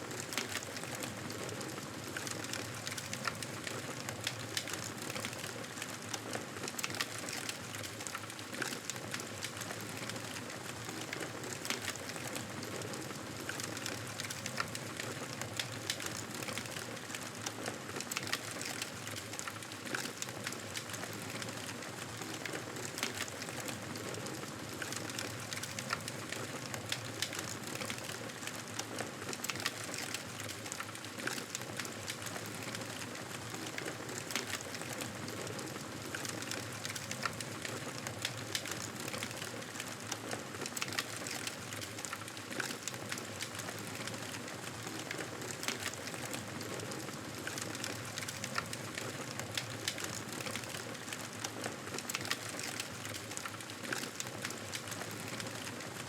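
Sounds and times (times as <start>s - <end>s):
fire crackling and popping: 0.1s - 56.0s.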